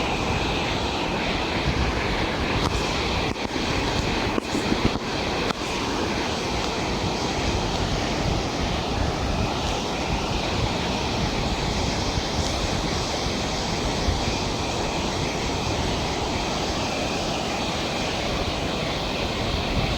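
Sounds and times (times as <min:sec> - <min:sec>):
steady rushing noise: 0:00.0 - 0:19.9.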